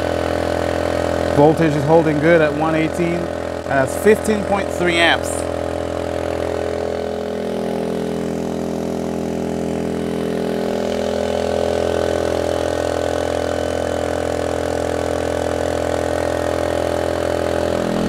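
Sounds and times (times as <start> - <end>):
generator engine running: 0.0 - 18.0.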